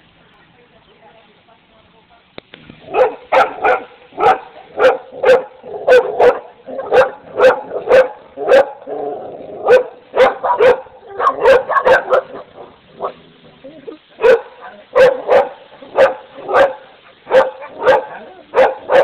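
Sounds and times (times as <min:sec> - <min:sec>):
dogs barking rapidly: 0:02.8 - 0:13.3, 0:13.9 - 0:19.0.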